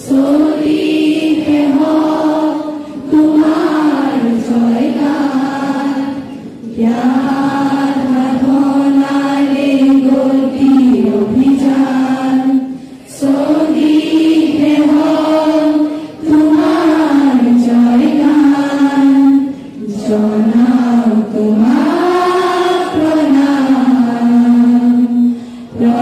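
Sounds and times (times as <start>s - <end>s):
group singing in unison: 0.0s - 26.0s.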